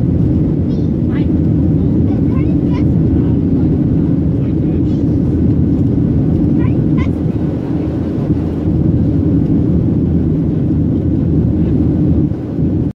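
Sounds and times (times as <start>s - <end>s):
rushing air: 0.0s - 12.9s
jet engines rumbling: 0.0s - 13.0s.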